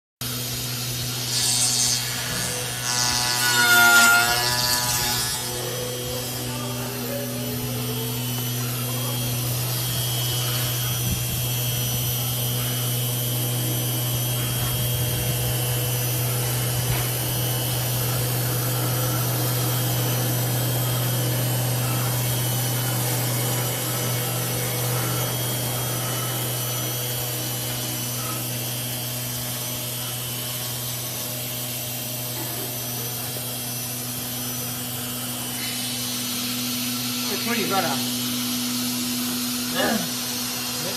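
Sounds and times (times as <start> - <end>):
machine humming: 0.2 - 40.9
router bit cutting foam: 0.2 - 40.9.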